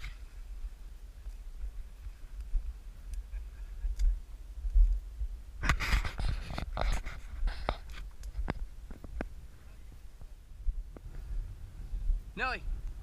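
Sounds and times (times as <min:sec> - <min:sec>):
rustling and crackling: 0:00.0 - 0:12.0
wind rumble on microphone: 0:00.0 - 0:13.0.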